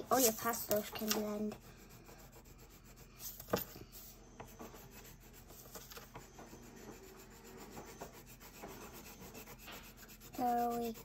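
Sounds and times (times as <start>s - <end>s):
crayon scratching on paper: 0.0s - 11.0s.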